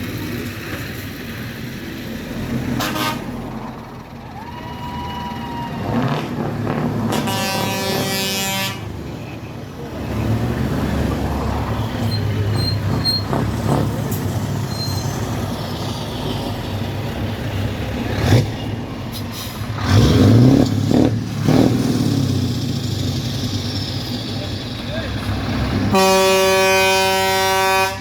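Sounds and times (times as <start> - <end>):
vehicle engines humming: 0.0 - 28.0.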